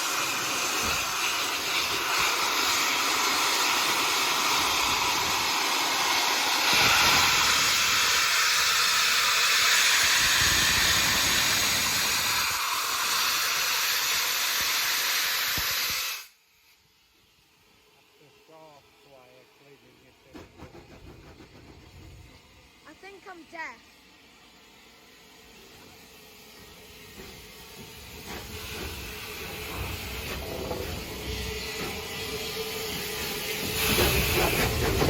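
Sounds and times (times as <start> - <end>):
steam locomotive hissing steam: 0.0 - 35.0.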